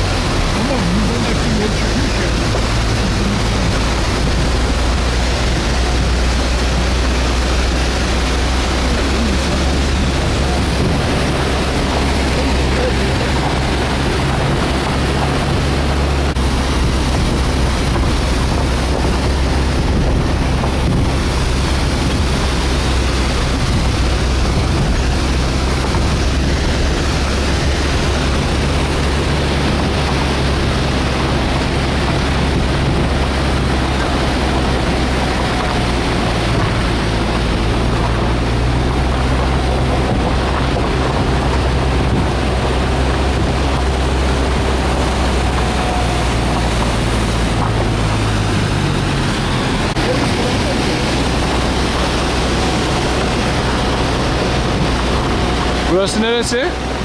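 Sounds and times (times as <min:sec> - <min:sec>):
vehicle engine droning: 0:00.0 - 0:57.0
wind noise: 0:00.0 - 0:57.0.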